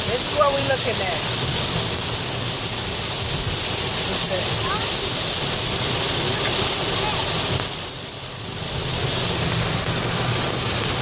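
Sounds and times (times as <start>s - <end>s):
heavy rain on a car: 0.0s - 11.0s
tyre and road noise: 0.0s - 11.0s.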